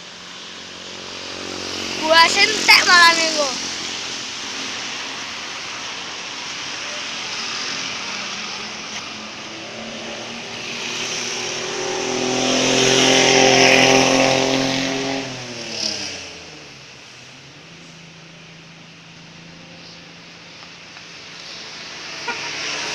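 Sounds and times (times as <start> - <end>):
bus passing close by: 0.0 - 22.9.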